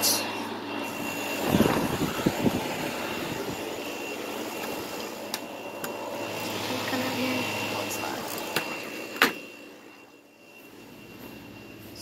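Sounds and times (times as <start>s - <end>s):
air conditioner droning: 0.0s - 12.0s.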